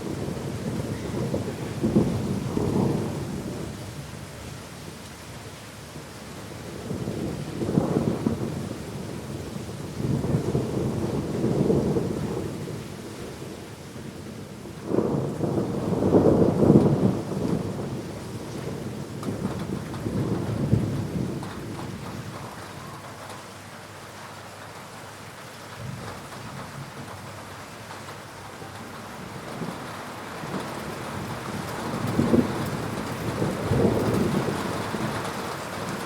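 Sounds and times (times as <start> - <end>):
thunder rumbling: 0.0 - 4.0, 6.5 - 23.4, 25.7 - 36.0
steady rain: 0.0 - 36.0.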